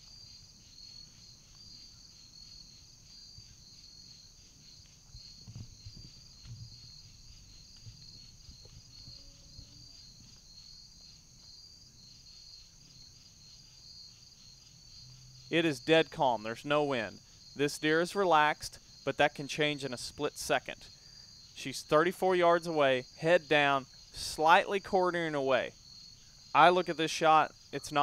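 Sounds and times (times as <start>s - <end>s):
crickets trilling: 0.0s - 28.0s.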